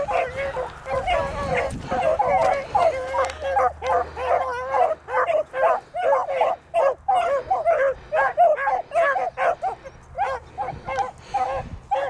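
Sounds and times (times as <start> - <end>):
hounds baying: 0.0 - 12.0.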